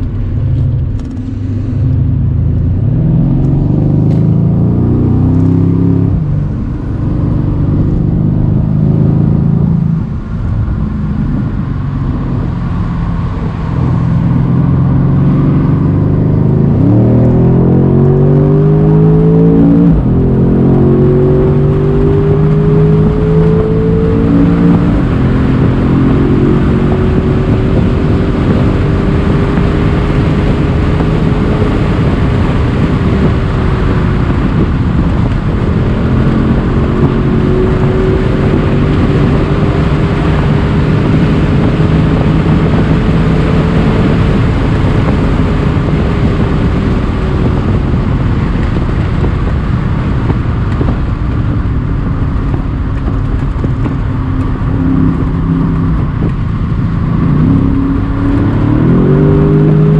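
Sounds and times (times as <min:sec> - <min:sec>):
car engine at full throttle: 0:00.0 - 0:59.9
wind and road rush: 0:00.0 - 0:59.9.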